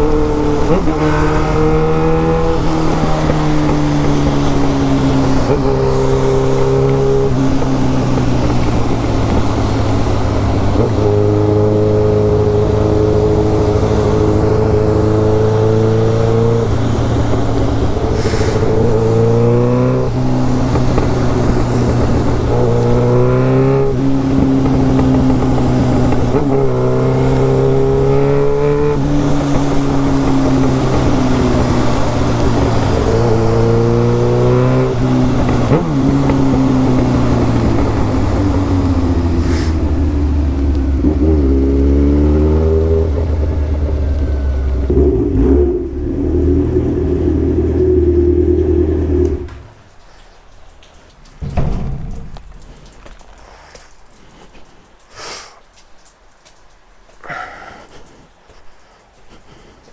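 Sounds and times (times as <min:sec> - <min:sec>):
motorcycle engine accelerating: 0:00.0 - 0:49.8.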